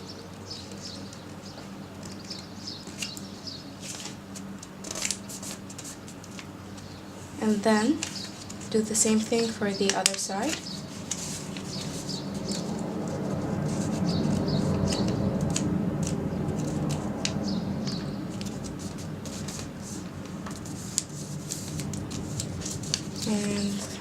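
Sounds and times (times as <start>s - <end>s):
low background hum: 0.0s - 24.0s
paper folding and rustling: 2.0s - 6.9s, 7.5s - 24.0s.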